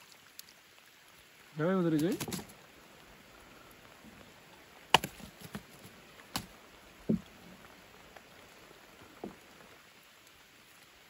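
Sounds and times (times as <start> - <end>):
light rain pattering on water: 0.0 - 11.0.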